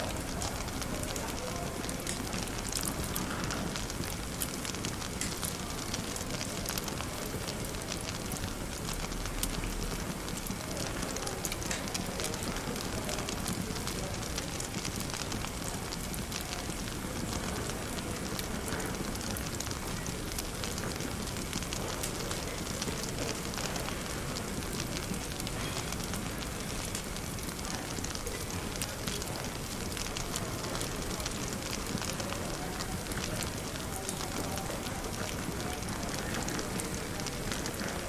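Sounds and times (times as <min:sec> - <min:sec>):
cafe ambience hiss: 0:00.0 - 0:38.0
wood fire crackling: 0:00.0 - 0:38.0.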